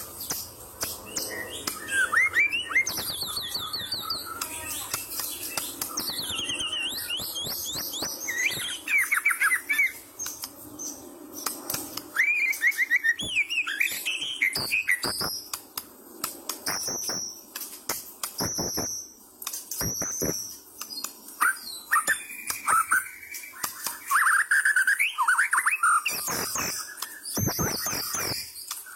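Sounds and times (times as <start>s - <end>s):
bird singing whistled trills: 0.2s - 15.5s, 16.6s - 17.4s, 18.2s - 19.2s, 19.8s - 28.9s.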